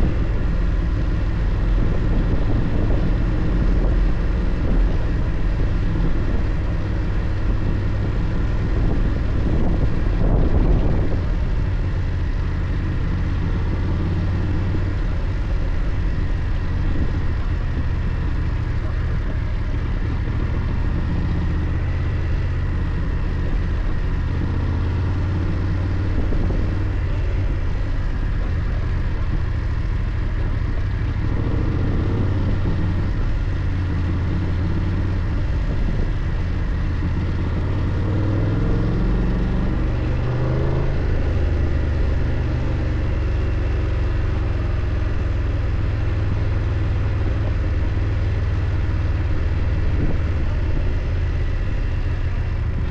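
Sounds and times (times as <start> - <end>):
motorcycle engine running: 0.0 - 52.9
steady rushing noise: 0.0 - 52.9.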